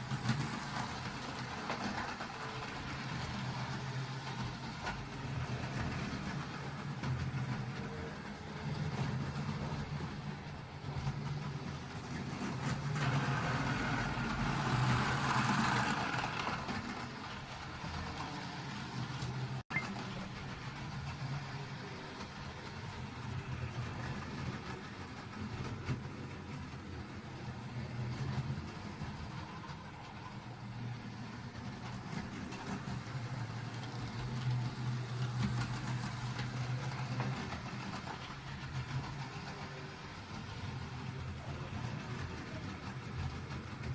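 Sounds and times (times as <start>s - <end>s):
wheels rattling on track: 0.0s - 43.9s.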